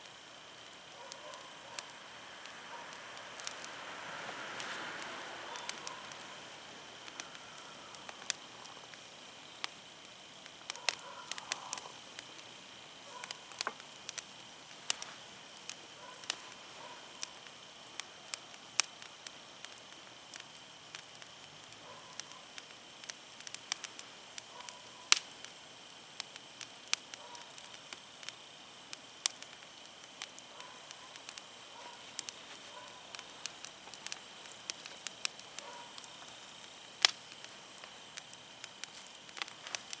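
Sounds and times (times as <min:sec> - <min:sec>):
firewood crackling and popping: 0:00.0 - 0:40.0.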